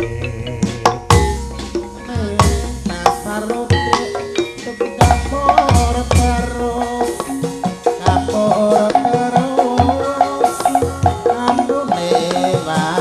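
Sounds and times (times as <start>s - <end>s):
metallophone tones: 0.0s - 13.0s.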